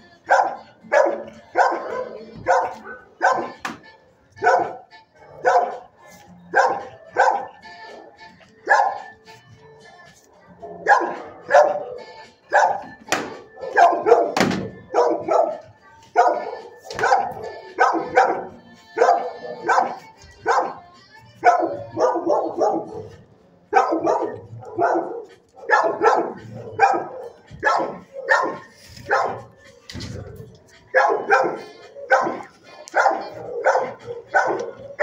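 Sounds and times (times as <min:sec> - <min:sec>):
dog barking: 0:00.3 - 0:03.8, 0:04.4 - 0:09.2, 0:10.6 - 0:35.0.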